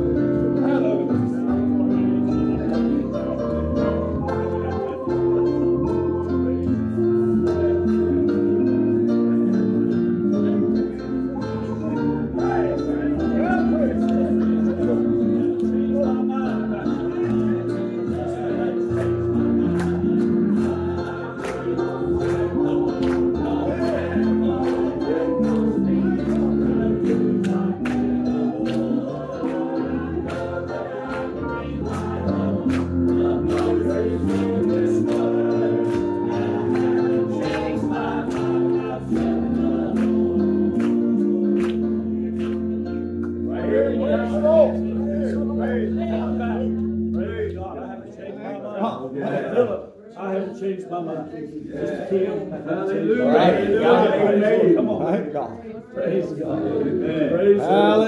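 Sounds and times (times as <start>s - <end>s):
voices singing along: 0.0s - 47.6s, 51.6s - 55.1s, 55.7s - 58.0s
instrumental accompaniment: 0.0s - 47.9s.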